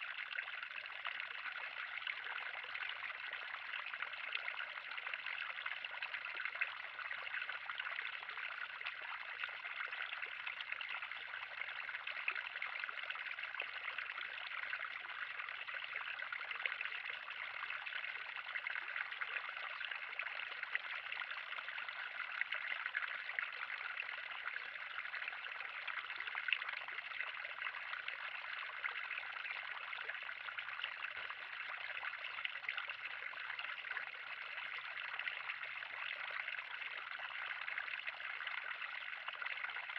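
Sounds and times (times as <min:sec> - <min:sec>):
water trickling in a pond: 0:00.0 - 0:39.9.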